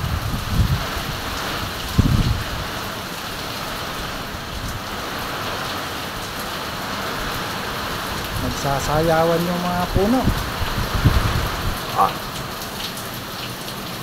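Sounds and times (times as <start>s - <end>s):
heavy rain and wind hissing: 0.0s - 14.0s.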